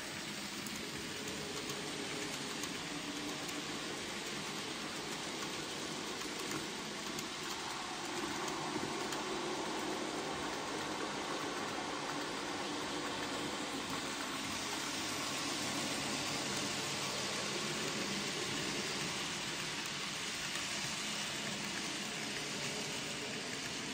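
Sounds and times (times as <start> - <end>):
model train motor whirring: 0.0 - 23.9.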